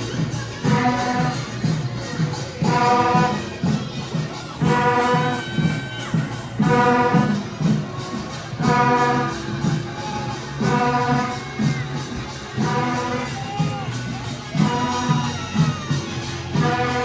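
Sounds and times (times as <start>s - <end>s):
drums beating: 0.0s - 17.0s
horns blaring a held note: 2.6s - 17.0s.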